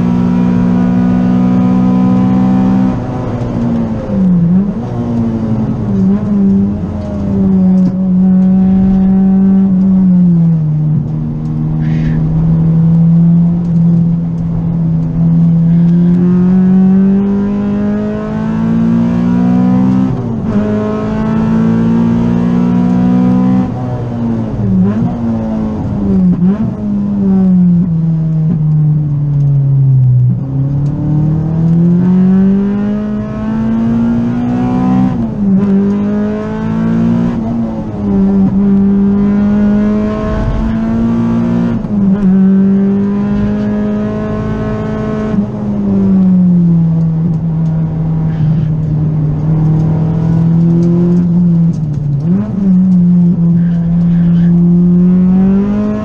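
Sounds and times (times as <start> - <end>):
car engine revving: 0.0 - 28.7, 30.1 - 56.0.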